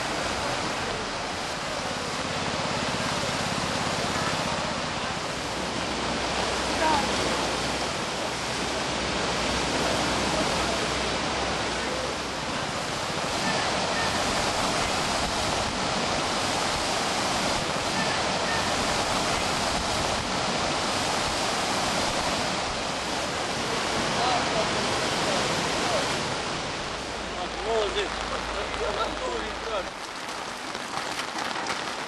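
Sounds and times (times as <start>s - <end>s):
floodwater rushing: 0.0s - 32.0s.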